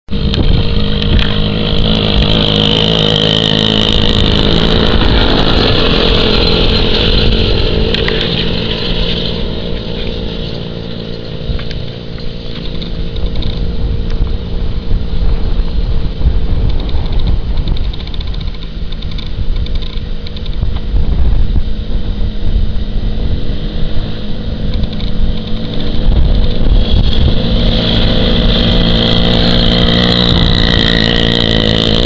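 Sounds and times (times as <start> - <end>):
moped two-stroke engine running: 0.1 - 20.7, 22.5 - 32.0.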